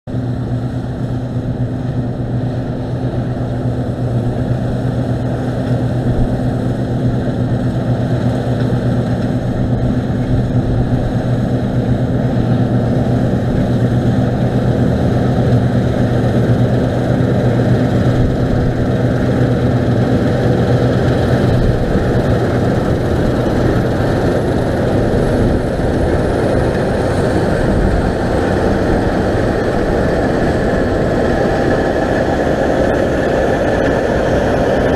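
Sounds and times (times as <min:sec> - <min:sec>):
combine harvester running: 0:00.1 - 0:34.9.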